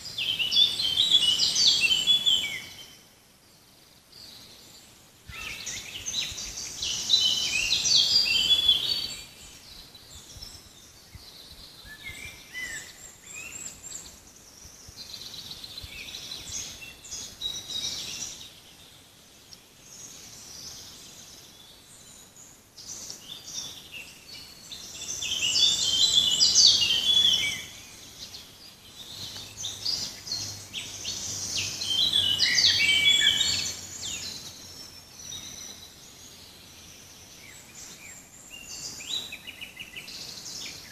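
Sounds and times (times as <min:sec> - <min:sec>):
faint background hiss: 0:00.0 - 0:40.9
songbirds singing: 0:00.0 - 0:40.9.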